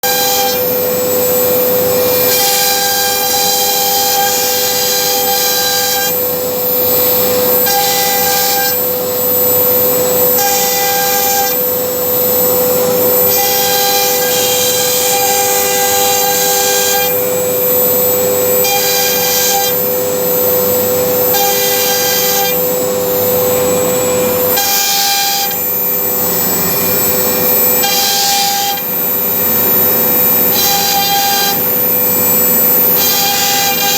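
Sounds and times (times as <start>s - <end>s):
higher machine whine: 0.0s - 33.9s
router spindle whine: 0.0s - 33.9s.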